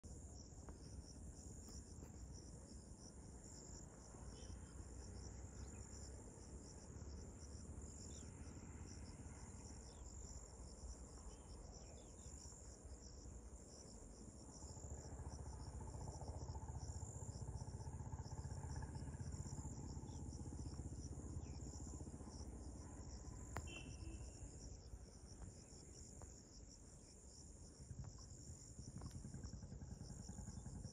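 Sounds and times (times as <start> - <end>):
insects chirring: 0.0 - 30.9
faint low rumble: 0.1 - 30.9.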